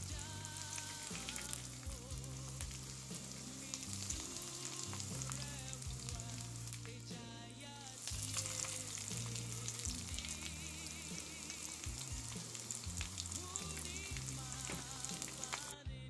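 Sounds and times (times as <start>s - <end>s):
food sizzling in oil: 0.0s - 15.8s
background music: 0.0s - 16.0s.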